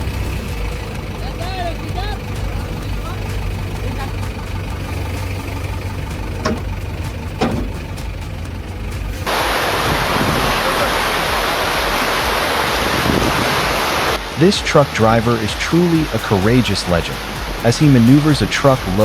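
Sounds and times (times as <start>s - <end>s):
diesel engine running: 0.0s - 19.0s
fast-flowing river water: 0.0s - 19.0s.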